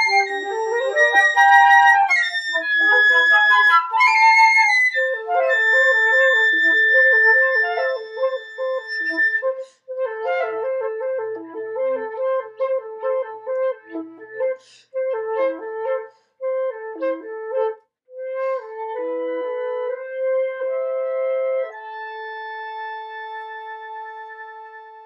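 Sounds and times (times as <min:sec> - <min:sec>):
flutes and piccolo playing: 0:00.0 - 0:25.0.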